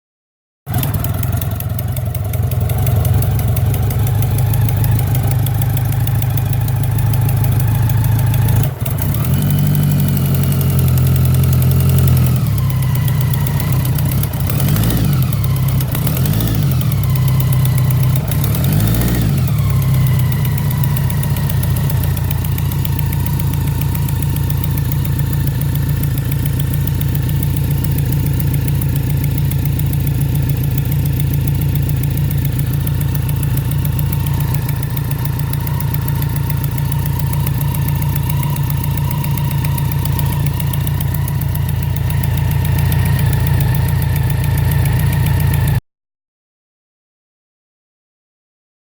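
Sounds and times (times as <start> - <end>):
motorcycle engine idling and revving: 0.7 - 45.8.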